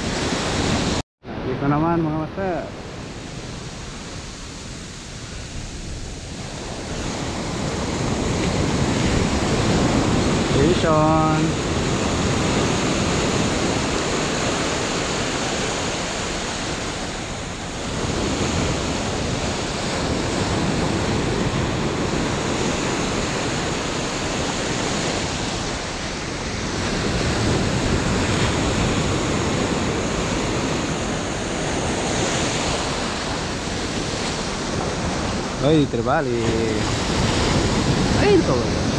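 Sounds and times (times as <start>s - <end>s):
small waves breaking on sand: 1.6s - 38.9s.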